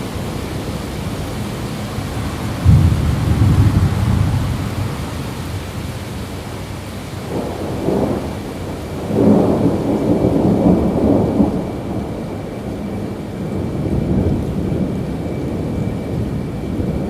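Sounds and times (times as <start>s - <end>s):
steady rain: 0.0s - 17.0s
thunder rolling: 2.4s - 6.4s, 7.2s - 17.0s.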